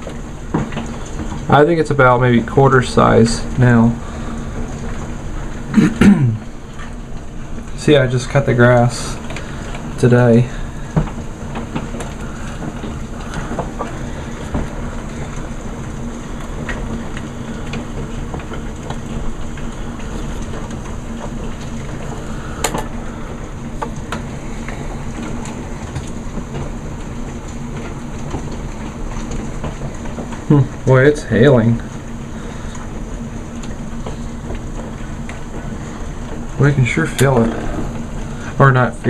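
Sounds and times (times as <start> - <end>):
hailstones clattering: 0.0 - 39.0.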